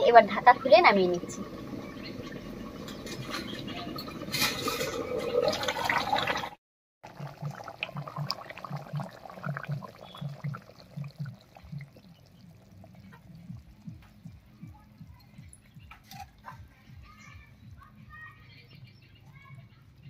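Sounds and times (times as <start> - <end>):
curry simmering with bubbling: 0.0 - 16.4.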